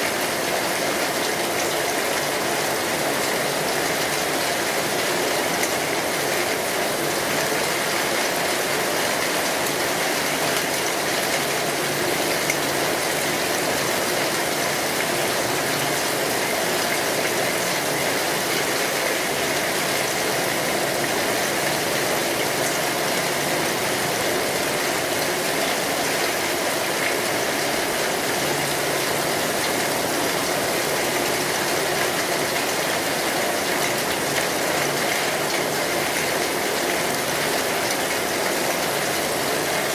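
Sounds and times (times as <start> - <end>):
steady rain on a street: 0.0 - 39.9.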